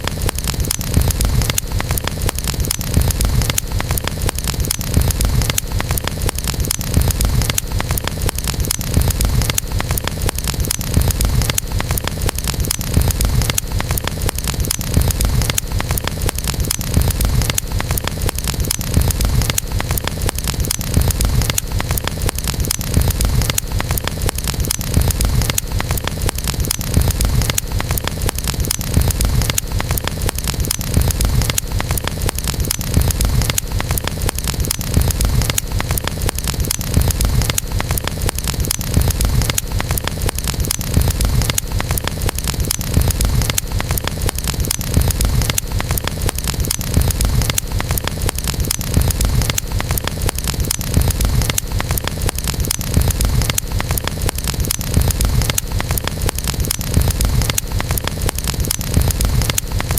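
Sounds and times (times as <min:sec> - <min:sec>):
campfire crackling and popping: 0:00.0 - 0:59.9
low rumble of fire: 0:00.0 - 0:59.9.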